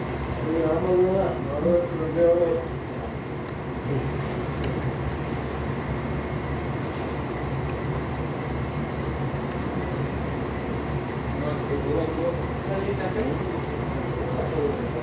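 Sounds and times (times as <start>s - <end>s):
low mechanical rumble and hum: 0.0s - 15.0s.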